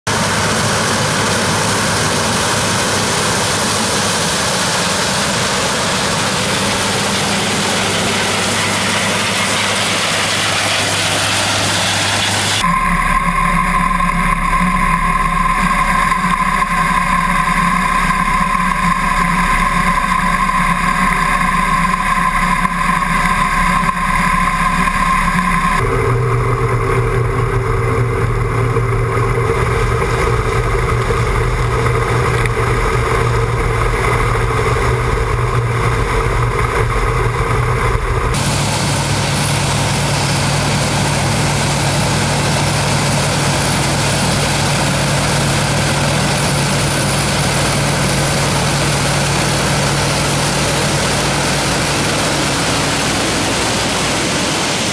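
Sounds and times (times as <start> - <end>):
combine harvester running: 0.1 - 54.9
noisy rush: 0.1 - 54.9.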